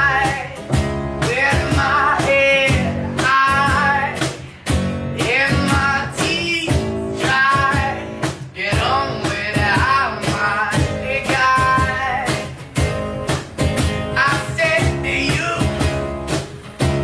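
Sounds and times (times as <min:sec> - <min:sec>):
song with singing over a beat: 0:00.0 - 0:17.0.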